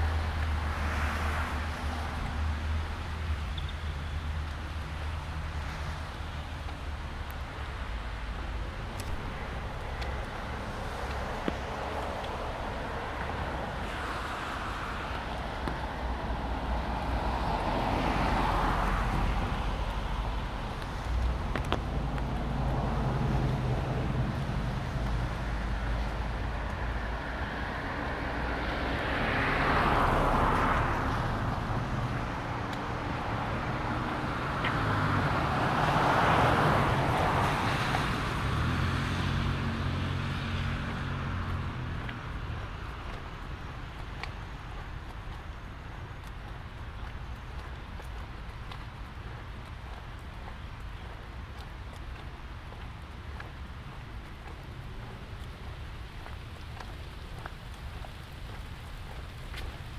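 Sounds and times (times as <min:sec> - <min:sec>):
tyres hissing on wet road: 0:00.0 - 0:48.0, 0:52.3 - 0:59.9
low traffic rumble: 0:00.0 - 0:59.9.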